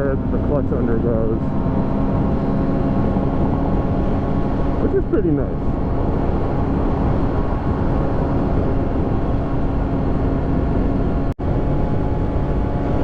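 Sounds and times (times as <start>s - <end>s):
motorcycle engine running: 0.0s - 13.0s
rush of noise: 0.0s - 13.0s.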